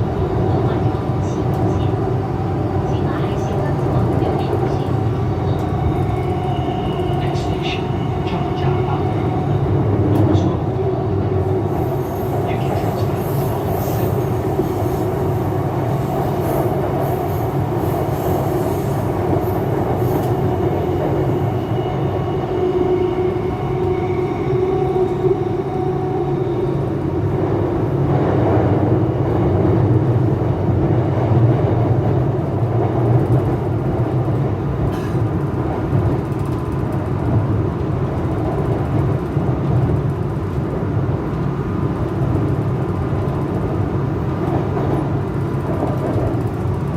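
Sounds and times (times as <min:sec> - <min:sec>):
metro train wheels rumbling: 0:00.0 - 0:46.9.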